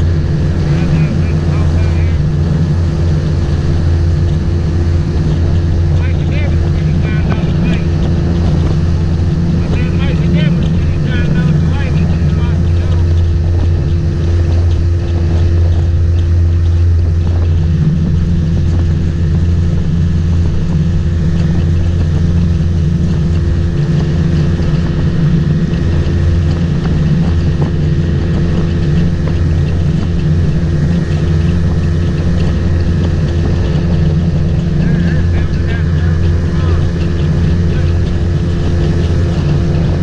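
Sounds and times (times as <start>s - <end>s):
motorboat engine droning: 0.0s - 40.0s.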